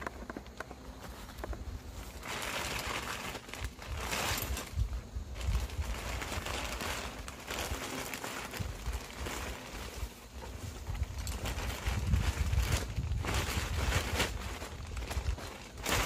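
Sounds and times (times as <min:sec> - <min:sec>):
plastic bag crinkling in branches: 0:00.0 - 0:16.0.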